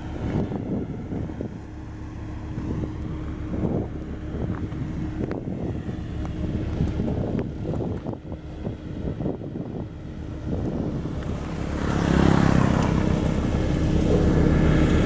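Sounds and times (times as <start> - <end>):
diesel engine rumbling: 0.0 - 15.0
wind buffeting microphone: 0.0 - 15.0.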